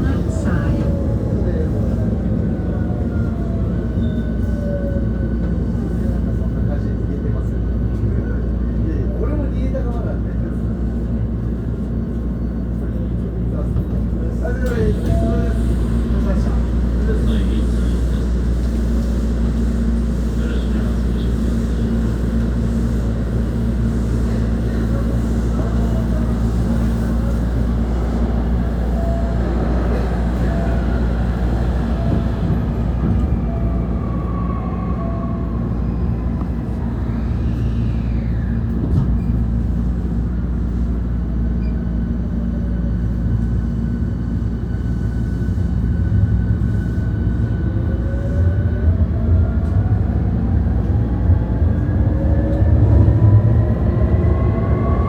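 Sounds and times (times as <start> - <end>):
train equipment hum: 0.0 - 55.0.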